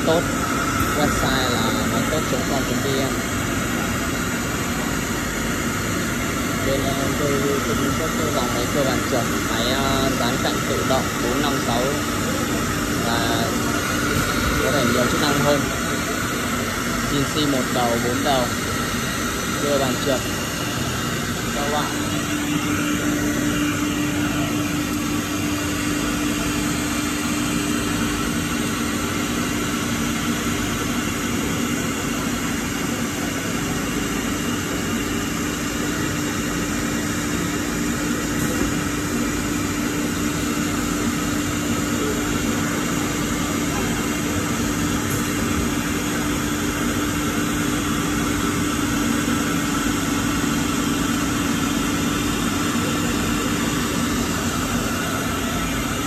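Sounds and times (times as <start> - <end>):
machine hum with steady tone: 0.0 - 56.0.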